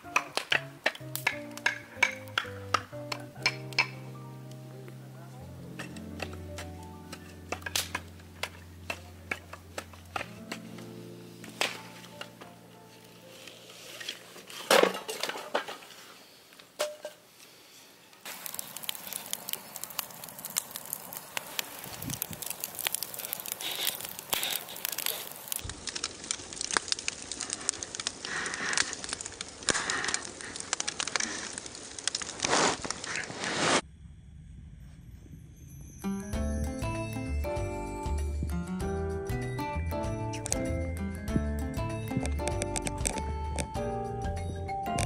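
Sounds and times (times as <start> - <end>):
campfire crackling and popping: 0.0 - 15.6, 18.2 - 33.8, 36.7 - 45.0.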